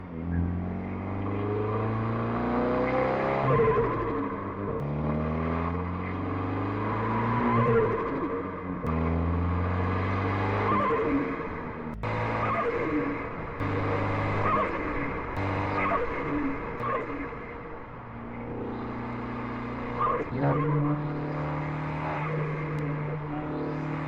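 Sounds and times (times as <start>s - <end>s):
car engine accelerating through gears: 0.0s - 24.0s.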